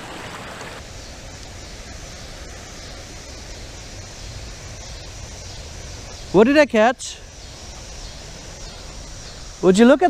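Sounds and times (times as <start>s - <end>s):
creek running over rocks: 0.0s - 10.0s.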